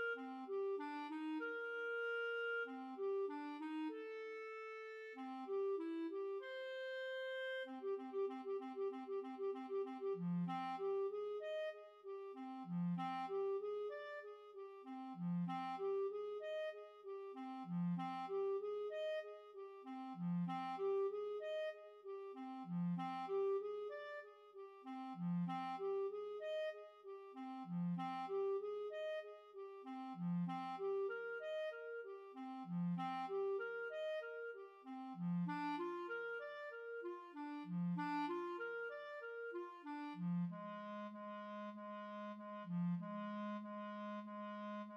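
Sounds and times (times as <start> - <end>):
clarinet playing arpeggios: 0.0 - 44.9.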